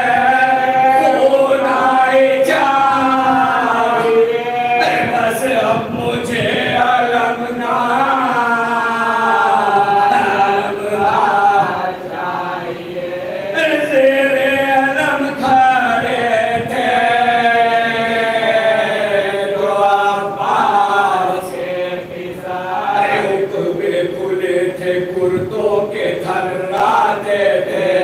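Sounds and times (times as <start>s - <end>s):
men chanting unaccompanied: 0.0s - 28.0s.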